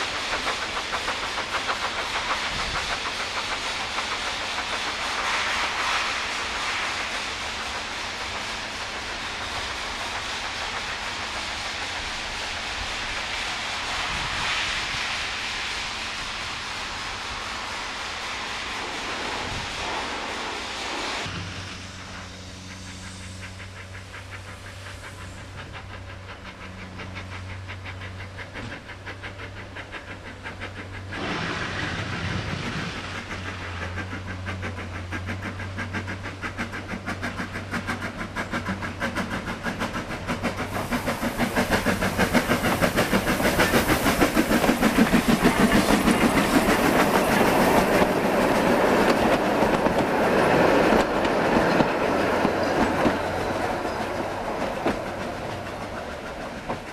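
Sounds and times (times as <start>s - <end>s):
carriages clacking over rail joints: 0.0s - 13.7s, 21.3s - 56.9s
steam locomotive exhaust beats: 0.0s - 56.9s.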